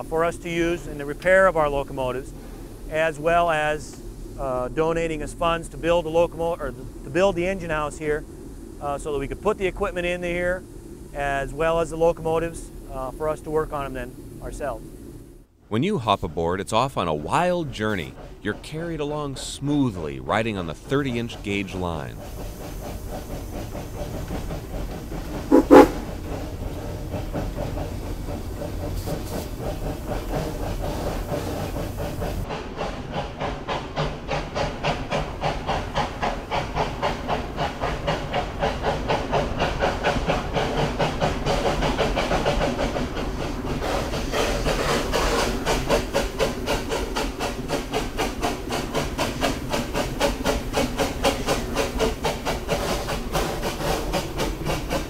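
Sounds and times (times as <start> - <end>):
steam hissing: 0.0 - 15.5, 16.9 - 55.0
steam locomotive exhaust chuffing: 0.0 - 55.0.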